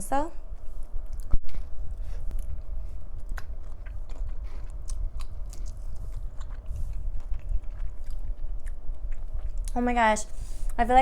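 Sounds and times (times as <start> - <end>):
wet chewing and crunching: 0.5 - 10.8.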